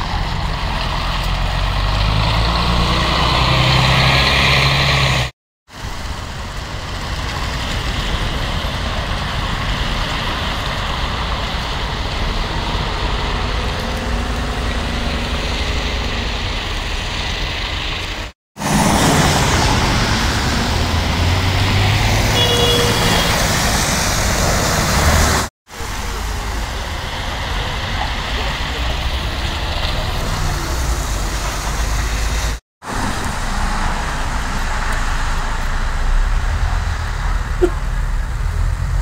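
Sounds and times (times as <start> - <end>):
buses driving past: 0.0 - 39.0
tyres hissing on wet road: 0.0 - 39.0.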